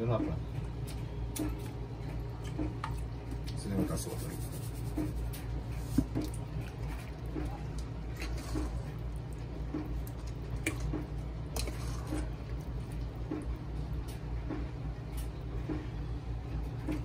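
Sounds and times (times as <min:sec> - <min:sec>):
ladle mashing wet food: 0:00.4 - 0:17.0.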